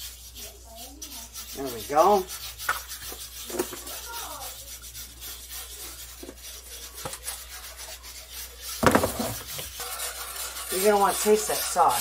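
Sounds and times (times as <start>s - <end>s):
whisk scraping a skillet: 0.0s - 12.0s.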